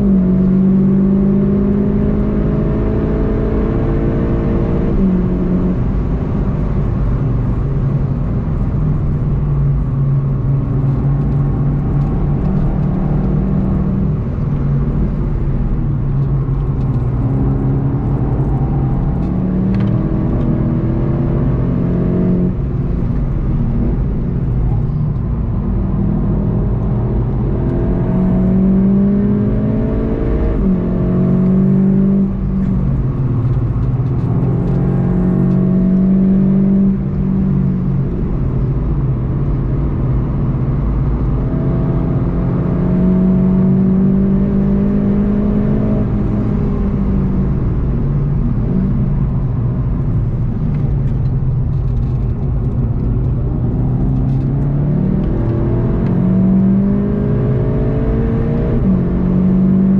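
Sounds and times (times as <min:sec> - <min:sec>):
car engine revving and upshifting: 0:00.0 - 0:59.9
low road rumble: 0:00.0 - 0:59.9.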